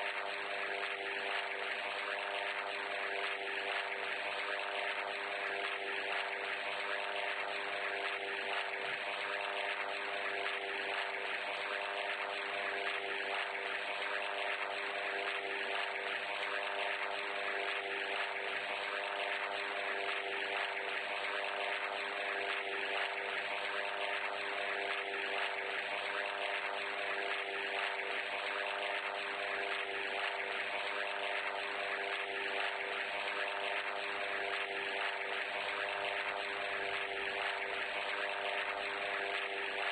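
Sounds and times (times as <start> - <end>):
mechanical drone with held tones: 0.0 - 39.9.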